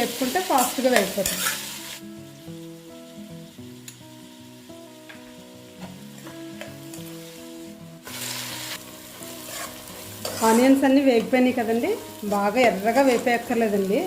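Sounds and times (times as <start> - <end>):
onions sizzling in oil: 0.0 - 14.0
solo guitar music: 1.6 - 13.5.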